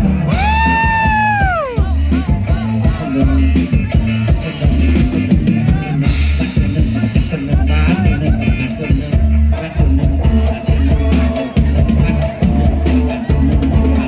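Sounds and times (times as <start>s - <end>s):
drum kit: 0.0s - 14.0s
heavy bass beat: 0.0s - 14.0s
live band music: 0.0s - 14.0s.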